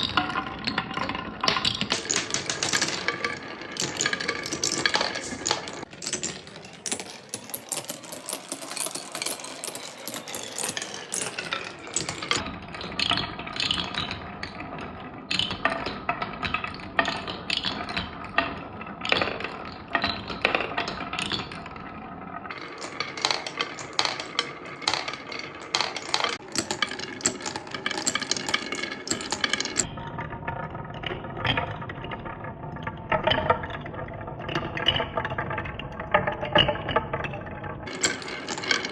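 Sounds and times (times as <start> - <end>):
marbles rolling on wooden track: 0.0 - 38.9.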